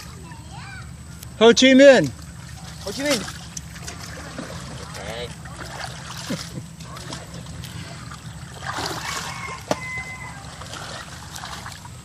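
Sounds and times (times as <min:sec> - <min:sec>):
water trickling: 0:01.2 - 0:12.0
kayak paddle splashing: 0:01.7 - 0:12.0.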